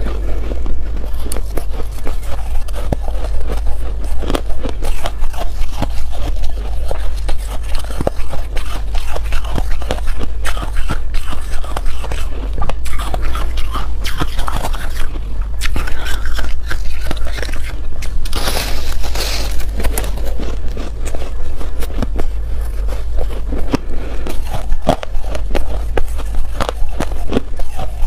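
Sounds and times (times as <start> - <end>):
crunching foam ice: 0.0 - 28.0.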